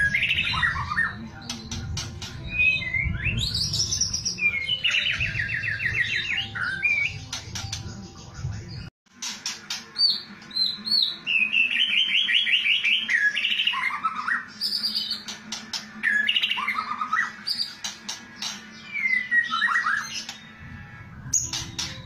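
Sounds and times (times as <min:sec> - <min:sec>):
bird singing varied song: 0:00.0 - 0:22.0.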